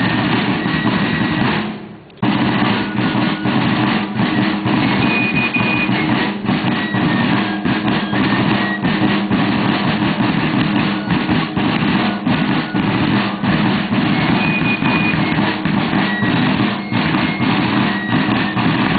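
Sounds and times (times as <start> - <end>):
high held notes: 0.0 - 18.9
snare drums military cadence: 0.0 - 18.9.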